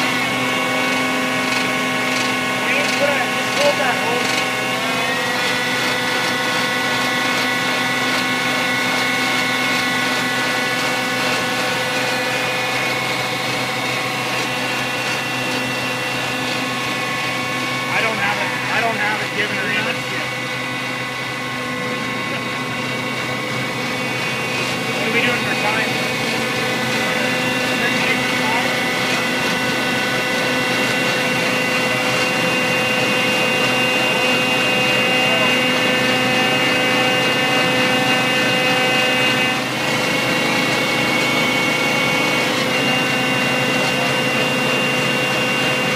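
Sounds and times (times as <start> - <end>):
constant whining tones: 0.0 - 45.9
pump mechanical drone: 0.0 - 45.9.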